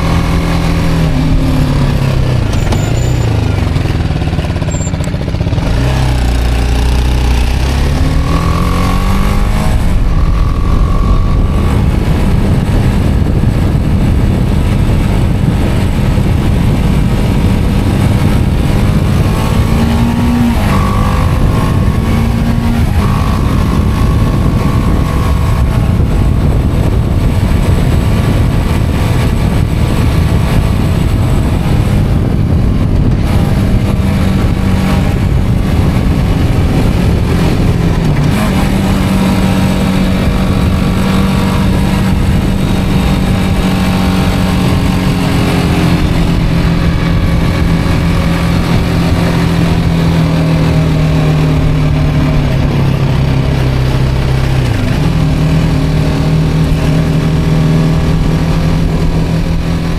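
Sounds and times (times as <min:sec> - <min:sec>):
heavy rumbling noise: 0:00.0 - 0:59.9
motorcycle engine running: 0:00.0 - 0:59.9.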